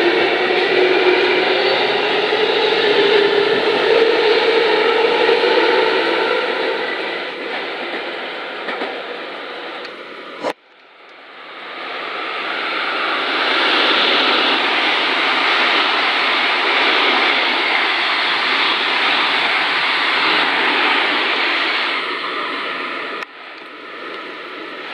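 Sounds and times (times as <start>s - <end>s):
electric train passing at speed: 0.0s - 24.9s
wheels rushing on rail: 0.0s - 24.9s.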